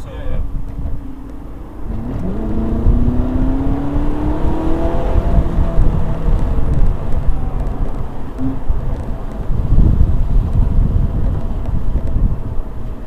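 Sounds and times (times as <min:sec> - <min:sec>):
road and wind rumble: 0:00.0 - 0:13.0
car engine accelerating: 0:00.7 - 0:13.0.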